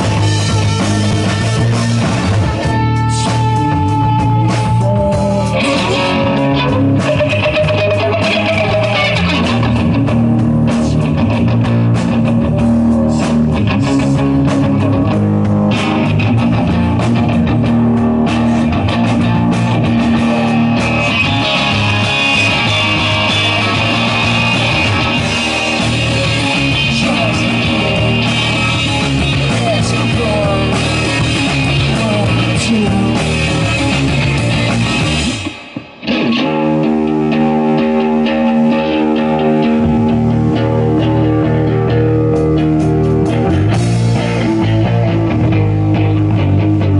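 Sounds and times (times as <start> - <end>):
live rock band playing: 0.0 - 46.9
sustained electric guitar notes: 0.0 - 46.9.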